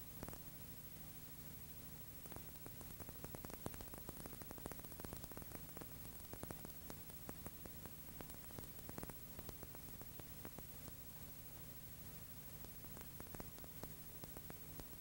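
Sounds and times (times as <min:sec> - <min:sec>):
faint steady hiss: 0:00.0 - 0:15.0
record surface clicks and crackles: 0:00.0 - 0:15.0.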